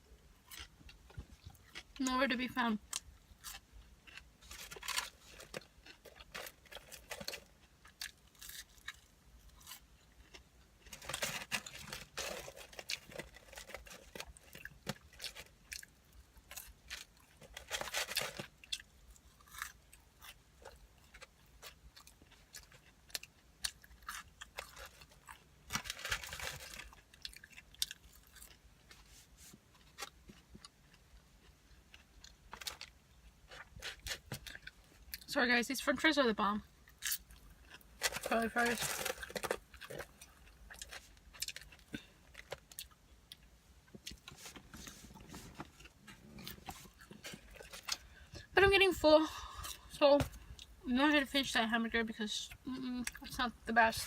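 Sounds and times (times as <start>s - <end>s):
person chewing crunchy fries: 0.2s - 35.3s, 36.8s - 48.5s.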